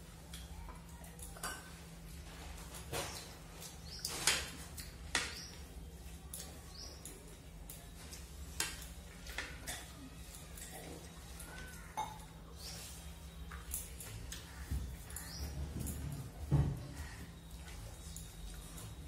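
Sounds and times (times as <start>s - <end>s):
soft eating noises: 0.0s - 19.0s.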